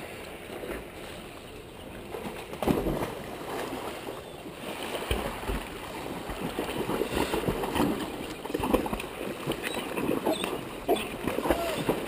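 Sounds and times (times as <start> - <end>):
dogs paddling and splashing: 2.0 - 12.0.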